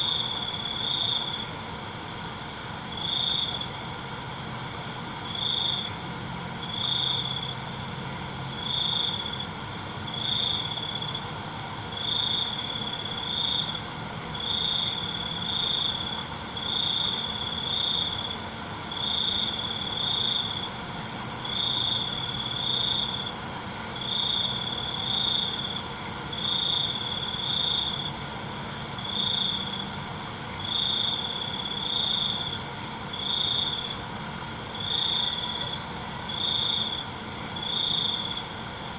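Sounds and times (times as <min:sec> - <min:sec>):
high-pitched insect trill: 0:00.0 - 0:38.9
loud cricket chirp: 0:00.0 - 0:38.9.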